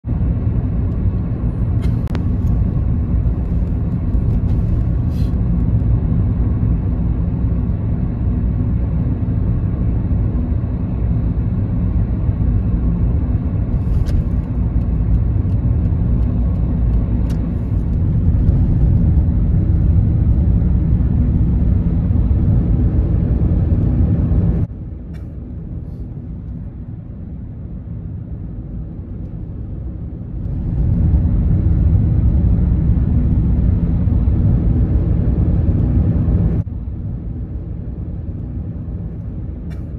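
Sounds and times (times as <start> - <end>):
low vehicle rumble: 0.0 - 39.9.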